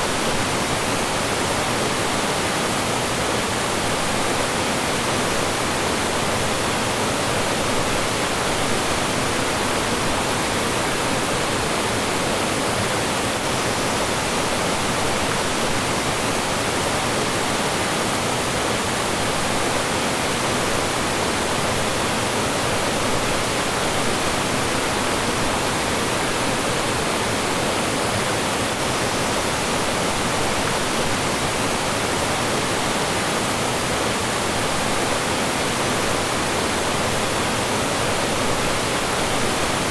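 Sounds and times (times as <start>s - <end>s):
stream rushing over small falls: 0.0s - 39.9s.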